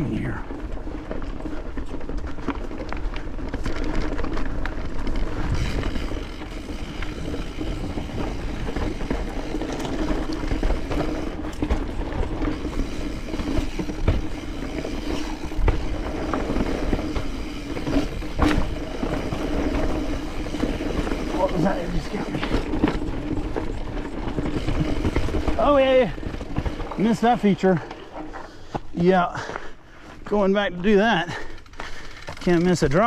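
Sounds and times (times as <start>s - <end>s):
mountain bike on dirt trail: 0.0s - 33.0s
bike knocks and rattles: 0.7s - 28.8s.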